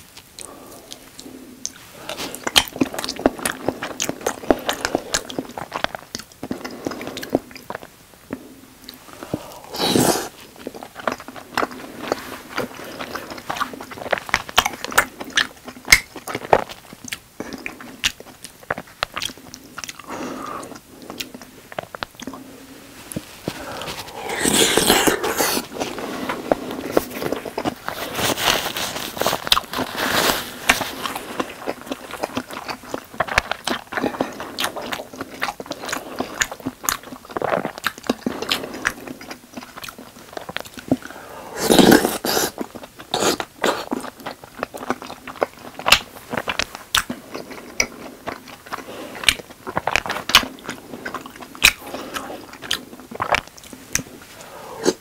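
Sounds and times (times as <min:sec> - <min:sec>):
chewing chewy food: 0:00.0 - 0:55.0
wet mouth noises: 0:00.0 - 0:55.0.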